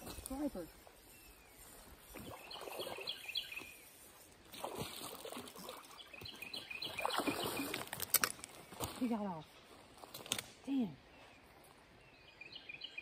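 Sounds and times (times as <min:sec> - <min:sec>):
songbird chirping: 0:00.0 - 0:04.2, 0:05.6 - 0:13.0.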